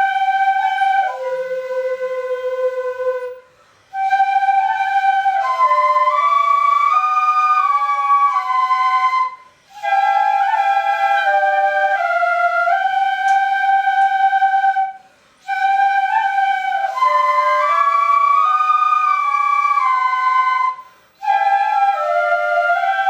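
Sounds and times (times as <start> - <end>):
bamboo flutes playing melody: 0.0 - 23.0.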